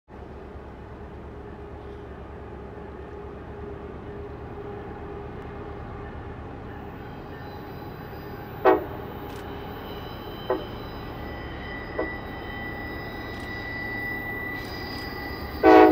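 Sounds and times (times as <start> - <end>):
diesel locomotive rumbling: 0.1 - 15.9.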